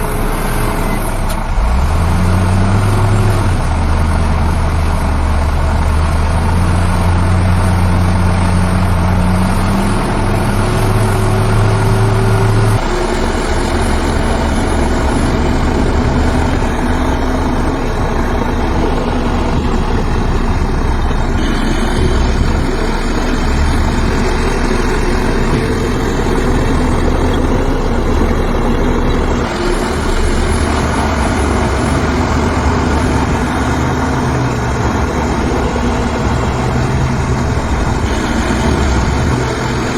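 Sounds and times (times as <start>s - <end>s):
deep engine hum: 0.0s - 39.9s
heavy diesel machinery engine: 0.0s - 39.9s.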